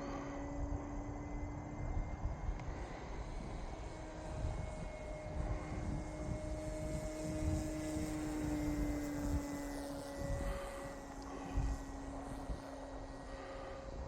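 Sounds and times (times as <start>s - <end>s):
model plane electric motor whine: 0.0s - 14.0s
wind rumbling on microphone: 0.0s - 14.0s.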